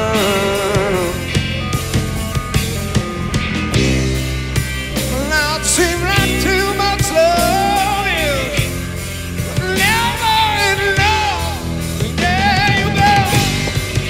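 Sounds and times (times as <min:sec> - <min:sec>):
high melody line: 0:00.0 - 0:14.0
rock band playing ballad: 0:00.0 - 0:14.0.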